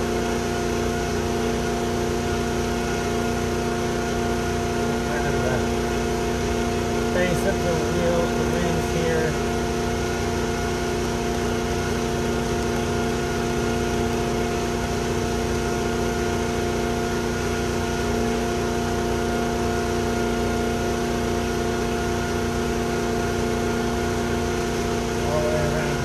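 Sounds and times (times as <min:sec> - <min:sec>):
small engine humming: 0:00.0 - 0:26.0.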